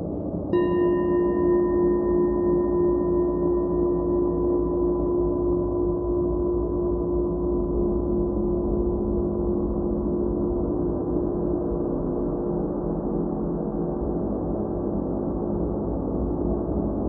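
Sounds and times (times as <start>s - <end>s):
ambient drone music: 0.0s - 17.0s.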